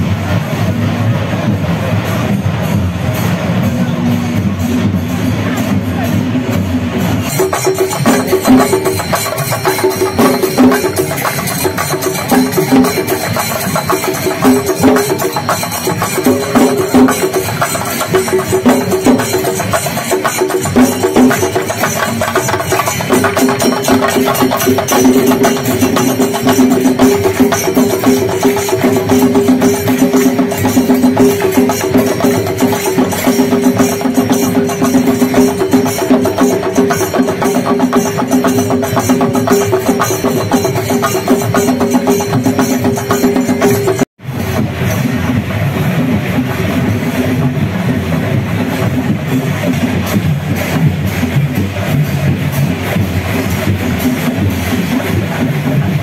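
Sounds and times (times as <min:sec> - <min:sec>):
drums beating fast rhythm: 0:00.0 - 0:56.0.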